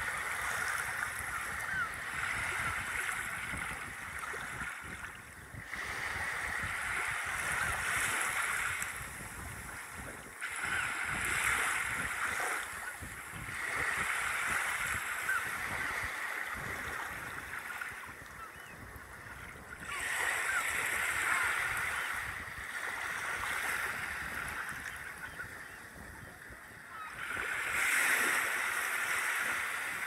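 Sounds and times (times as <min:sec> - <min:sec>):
wind buffeting microphone: 0:00.0 - 0:28.5
surf washing up beach: 0:00.0 - 0:30.0.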